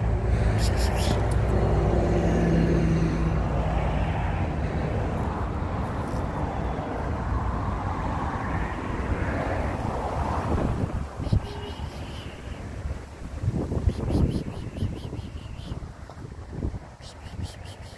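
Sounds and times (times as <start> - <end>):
vehicle engine rumble: 0.0 - 17.9.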